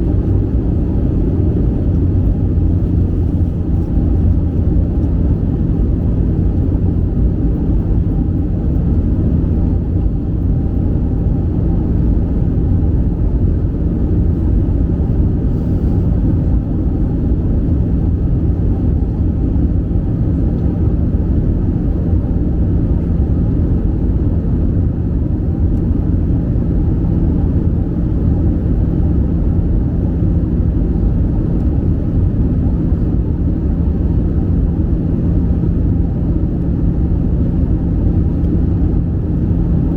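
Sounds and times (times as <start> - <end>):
airplane cabin engine rumble: 0.0 - 39.9
steady low hum: 0.0 - 39.9.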